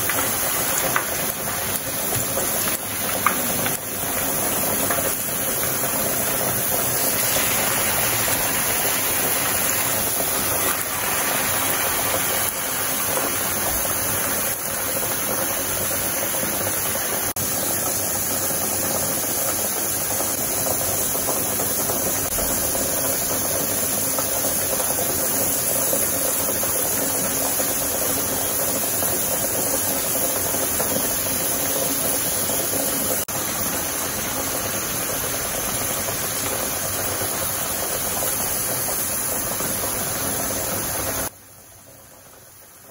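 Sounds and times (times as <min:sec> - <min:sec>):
hot oil sizzling: 0:00.0 - 0:42.9.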